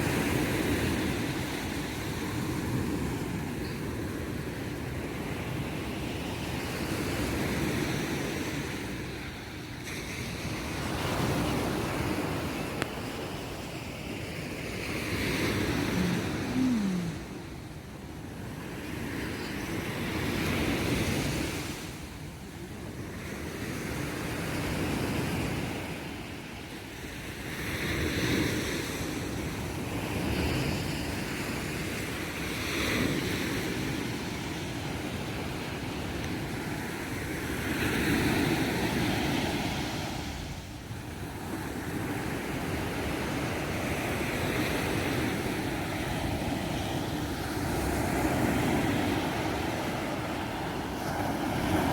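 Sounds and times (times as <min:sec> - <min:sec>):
small waves breaking on beach: 0:00.0 - 0:51.9.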